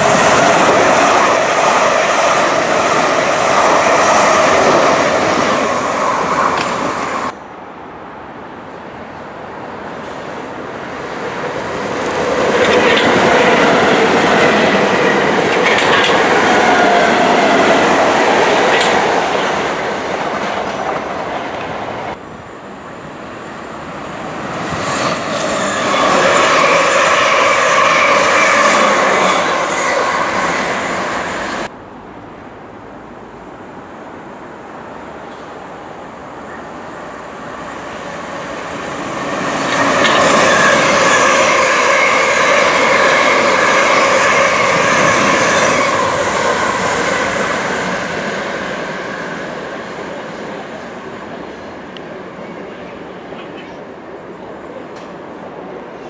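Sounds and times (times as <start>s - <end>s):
electric trains passing at speed: 0.0s - 56.0s.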